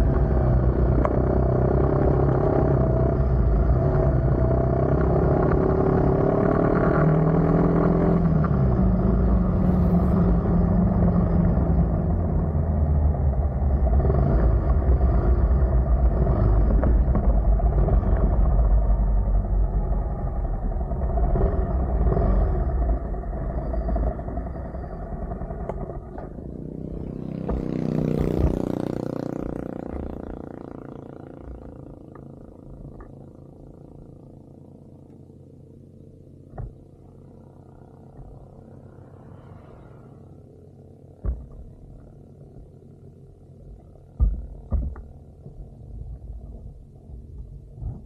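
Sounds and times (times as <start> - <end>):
motorcycle engine running: 0.0 - 39.3
road rumble: 0.0 - 48.0.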